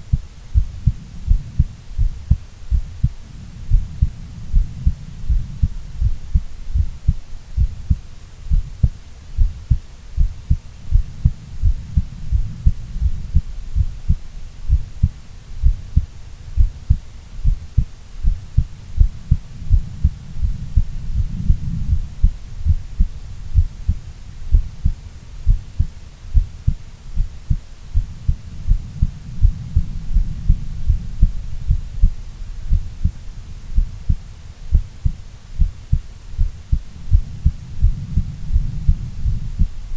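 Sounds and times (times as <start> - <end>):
heartbeat thumps: 0.0 - 39.9
low hum: 0.0 - 39.9.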